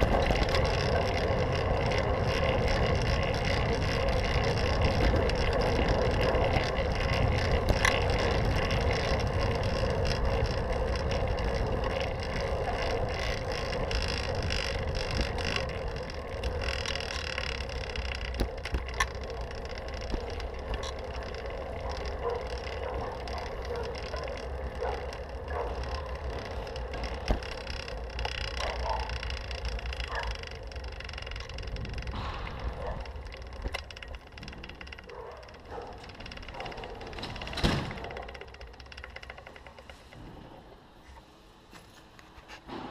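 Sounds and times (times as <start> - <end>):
bicycle tyre and road noise: 0.0 - 42.9.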